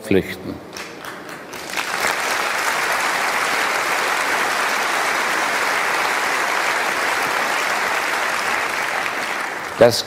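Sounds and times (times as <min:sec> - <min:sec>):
audience applauding: 0:00.7 - 0:10.0.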